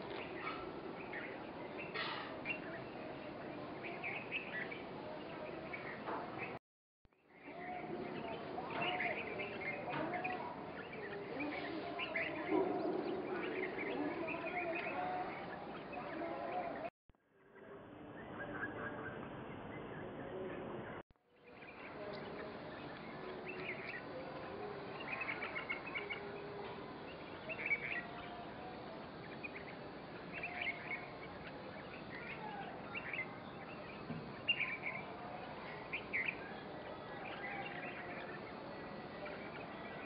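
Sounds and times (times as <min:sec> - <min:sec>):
birds chirping: 0:00.0 - 0:06.6, 0:07.2 - 0:16.9, 0:17.6 - 0:40.0.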